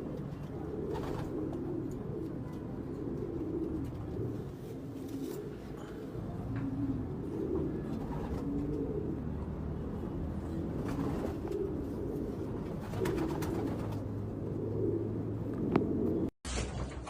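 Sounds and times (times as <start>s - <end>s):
pigeons cooing: 0.0s - 16.3s.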